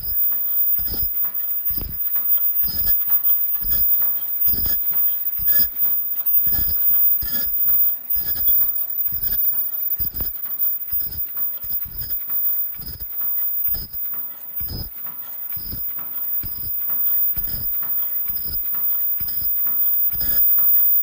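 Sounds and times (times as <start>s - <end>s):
machine heavy stroke: 0.0s - 21.0s
mechanical clatter: 0.0s - 21.0s.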